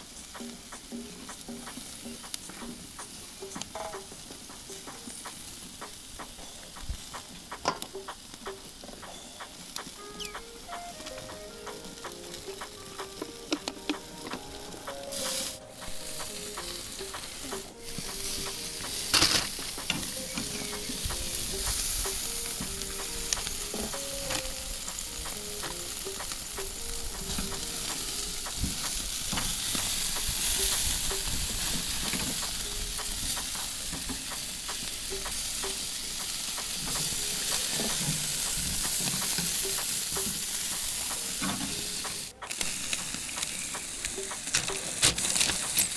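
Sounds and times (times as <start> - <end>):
chicken wings sizzling: 0.0 - 45.9.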